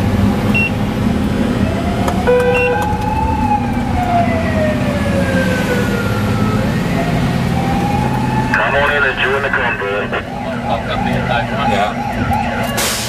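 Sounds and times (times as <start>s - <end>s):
vehicle engine hum: 0.0s - 12.8s
fire engine siren wailing: 0.5s - 13.0s.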